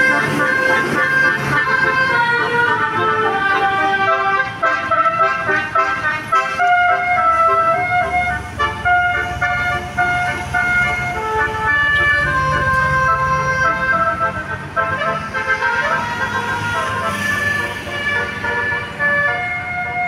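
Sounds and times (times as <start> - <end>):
bus engine running: 0.0 - 20.0
musical bus horn tune: 0.0 - 20.0.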